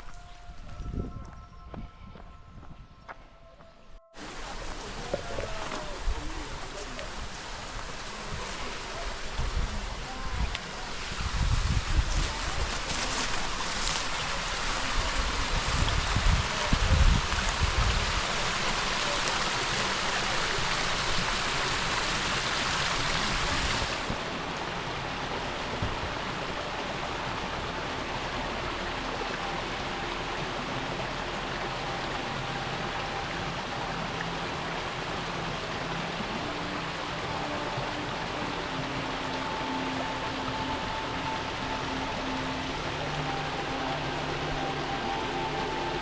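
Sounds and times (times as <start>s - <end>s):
water rushing in stream: 4.2s - 46.0s.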